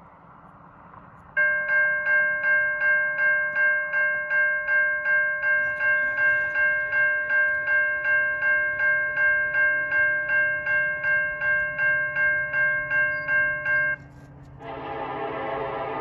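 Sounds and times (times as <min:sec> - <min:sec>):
crossing warning bell ringing: 0:01.3 - 0:16.0.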